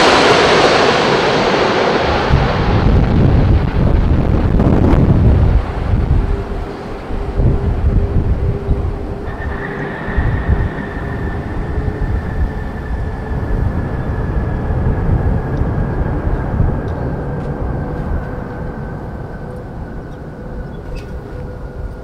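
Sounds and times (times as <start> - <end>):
jet engine roar: 0.0 - 22.0
thin engine whine: 0.0 - 22.0.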